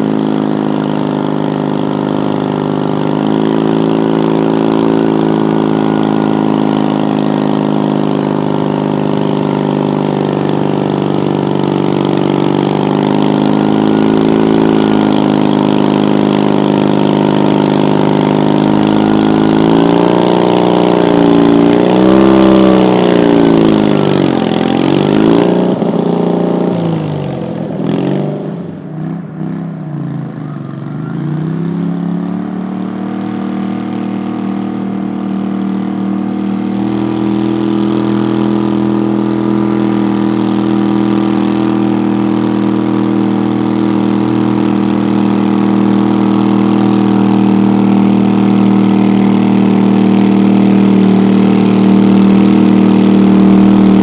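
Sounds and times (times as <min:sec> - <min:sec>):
engine idling: 0:00.0 - 0:54.0
tractor engine at high revs: 0:00.0 - 0:54.0.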